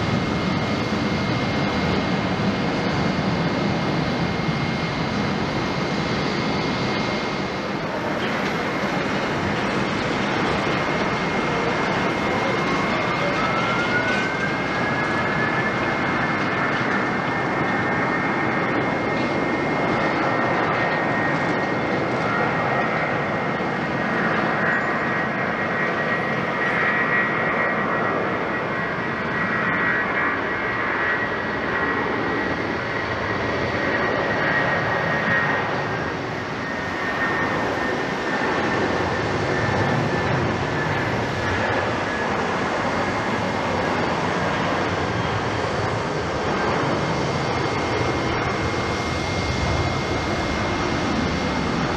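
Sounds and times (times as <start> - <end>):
jet engine roar: 0.0 - 51.9
jet engine whine: 0.0 - 51.9.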